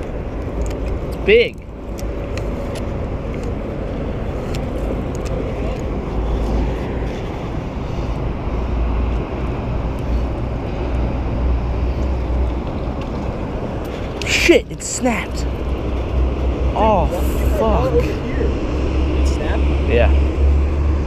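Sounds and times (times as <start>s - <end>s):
highway traffic rumble: 0.0s - 21.0s.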